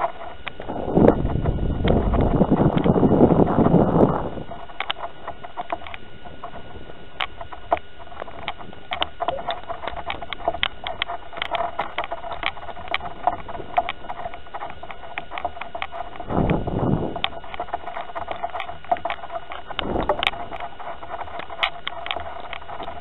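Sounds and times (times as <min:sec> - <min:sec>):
high electronic whine: 0:00.0 - 0:23.0.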